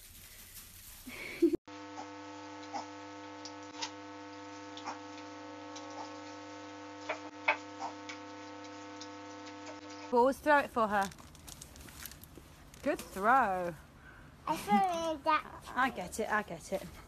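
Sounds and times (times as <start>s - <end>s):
electrical hum: 1.1s - 17.0s.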